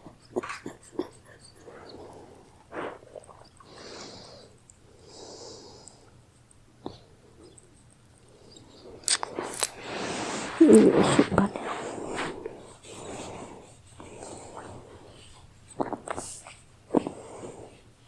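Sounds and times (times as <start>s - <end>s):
rabbit breathing and snuffling: 0.0s - 18.0s.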